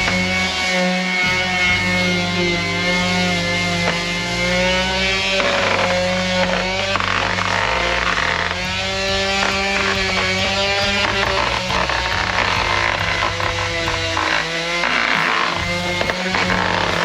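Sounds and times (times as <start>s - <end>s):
background music: 0.0s - 17.0s
power sander motor whine: 0.0s - 17.0s.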